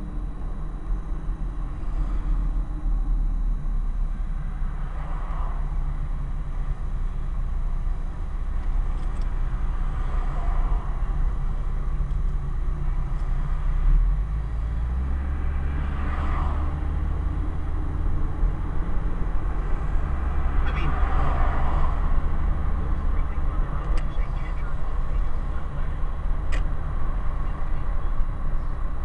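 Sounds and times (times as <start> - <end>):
car engine and tyres rumble: 0.0 - 29.0.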